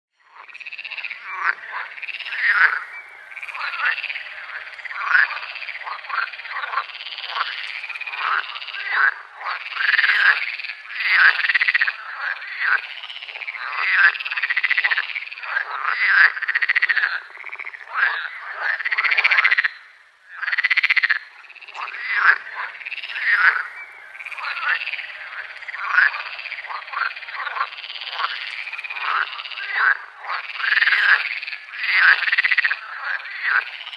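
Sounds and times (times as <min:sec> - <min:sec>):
frogs croaking and chirping: 0:00.2 - 0:33.9.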